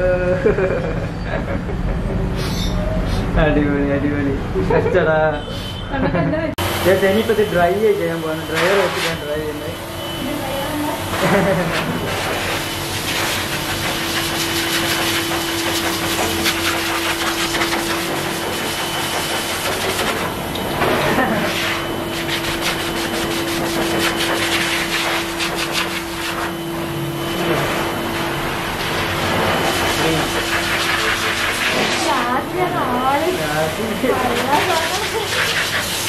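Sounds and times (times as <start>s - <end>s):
grooming blower dryer running: 6.6s - 36.0s.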